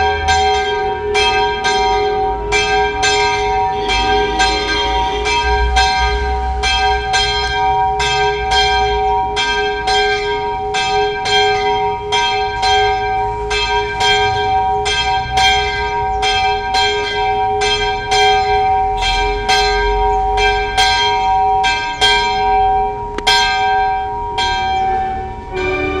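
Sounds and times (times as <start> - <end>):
church bell ringing: 0.0 - 26.0.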